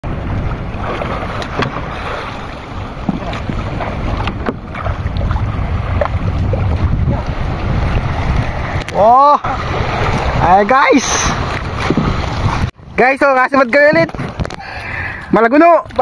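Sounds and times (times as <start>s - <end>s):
water sloshing around boat: 0.0s - 16.0s
wind buffeting microphone: 0.0s - 16.0s.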